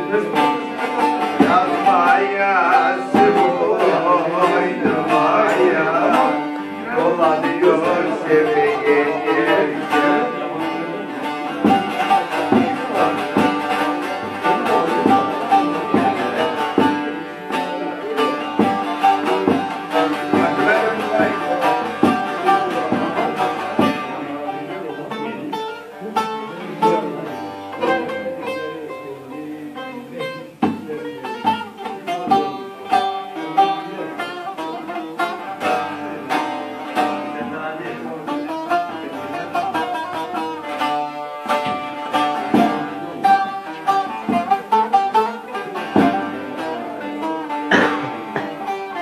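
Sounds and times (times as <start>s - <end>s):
plucked string instrument melody: 0.0s - 49.0s.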